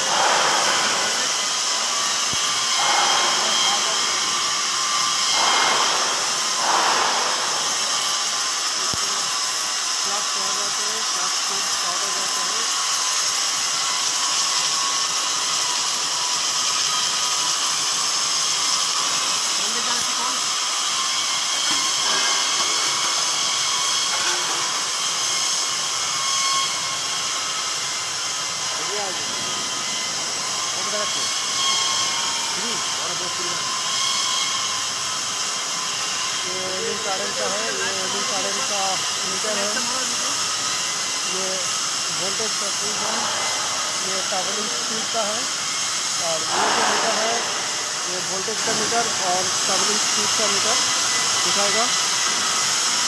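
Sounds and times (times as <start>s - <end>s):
welding machine hiss and hum: 0.0s - 53.0s.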